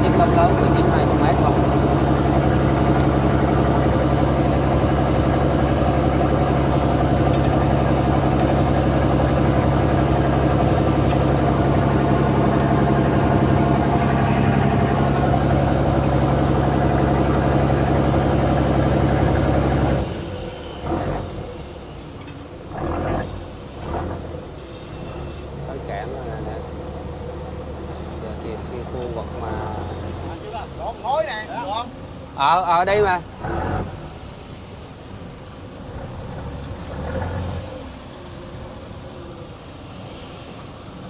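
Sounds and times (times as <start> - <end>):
boat diesel engine droning: 0.0 - 41.0.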